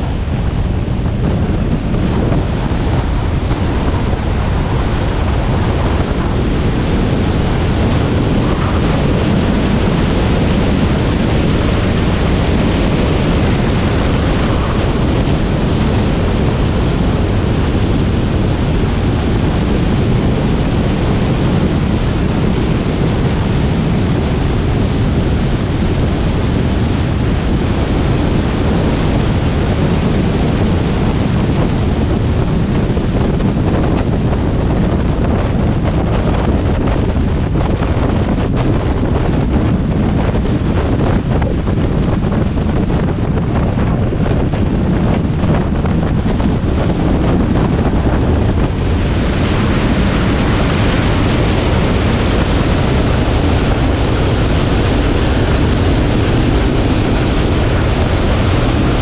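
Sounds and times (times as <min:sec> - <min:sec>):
wind rushing across microphone: 0:00.0 - 0:59.0.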